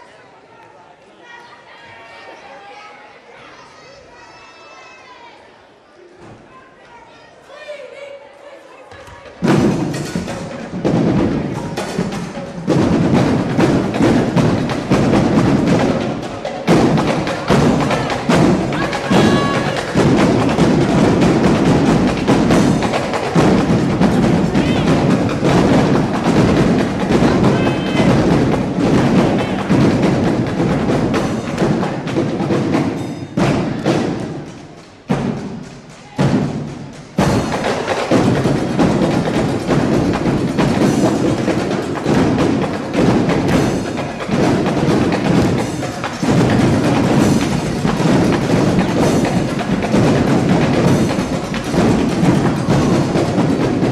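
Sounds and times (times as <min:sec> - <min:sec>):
drum line playing: 0:09.0 - 0:53.9.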